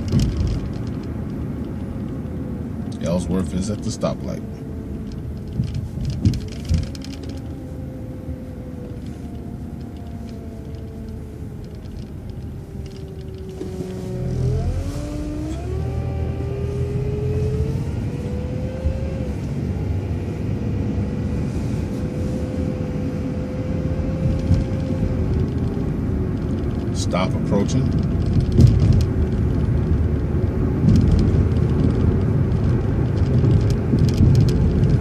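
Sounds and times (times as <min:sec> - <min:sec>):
bus engine running: 0:00.0 - 0:35.0
drivetrain whine: 0:00.0 - 0:35.0.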